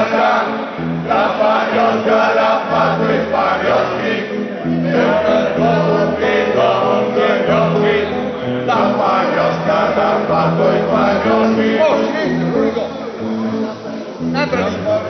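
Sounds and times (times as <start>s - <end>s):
men singing together: 0.0s - 12.5s
backing music through speaker: 0.0s - 15.0s.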